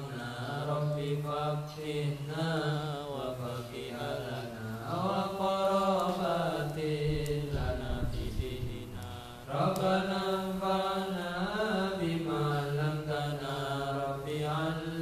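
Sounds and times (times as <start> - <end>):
man chanting prayer through microphone: 0.0 - 15.0.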